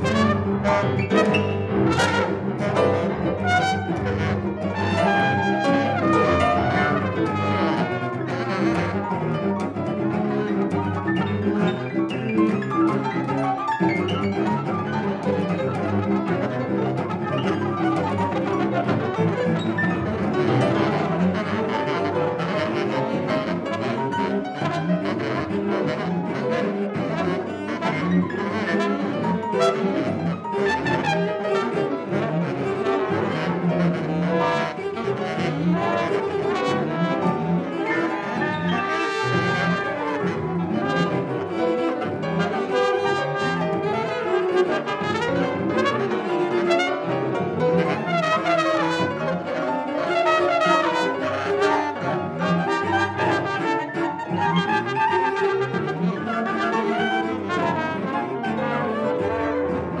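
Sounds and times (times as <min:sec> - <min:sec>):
trumpet playing jazz: 0:00.0 - 0:09.4, 0:14.3 - 1:00.0
baritone saxophone: 0:00.0 - 1:00.0
bowed cello: 0:00.0 - 1:00.0.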